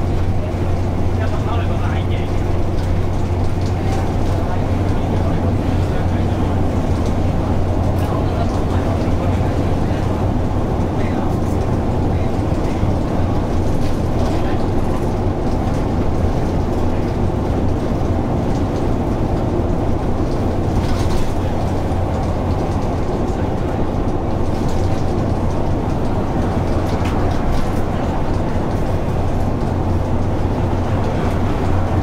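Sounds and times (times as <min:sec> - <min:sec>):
bus diesel engine droning: 0:00.0 - 0:32.0
road noise: 0:00.0 - 0:32.0.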